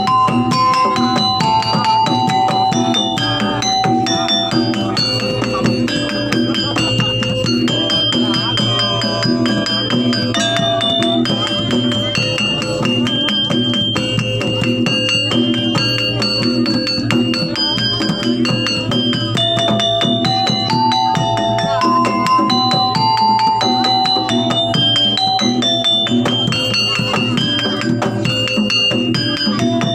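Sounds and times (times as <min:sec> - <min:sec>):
held-note melody: 0:00.0 - 0:29.9
rapid percussion: 0:00.0 - 0:29.9.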